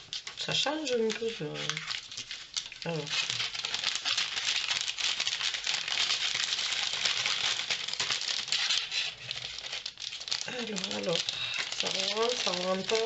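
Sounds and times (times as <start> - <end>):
plastic sleeve and paper crinkling: 0.0 - 13.0.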